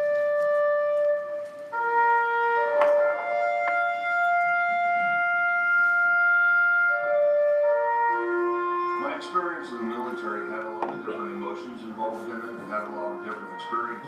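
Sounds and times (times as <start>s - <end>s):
slow instrumental background music: 0.0s - 14.0s.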